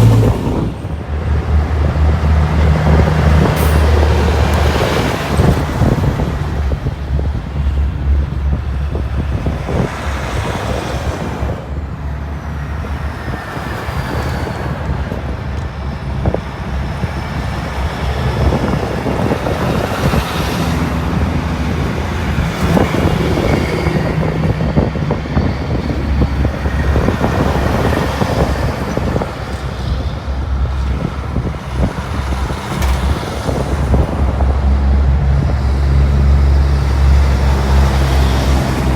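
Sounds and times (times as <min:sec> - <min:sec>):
diesel truck engines rumbling: 0:00.0 - 0:38.9.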